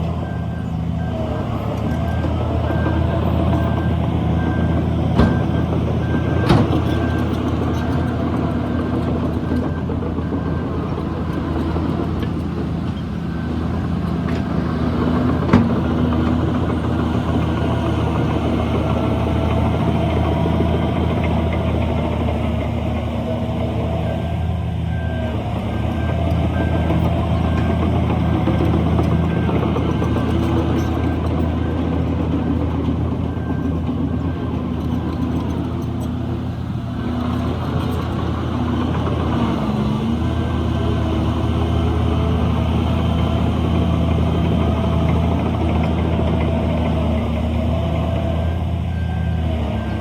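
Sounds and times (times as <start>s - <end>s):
diesel machinery running: 0.0s - 50.0s
reversing alarm beeping: 0.0s - 50.0s.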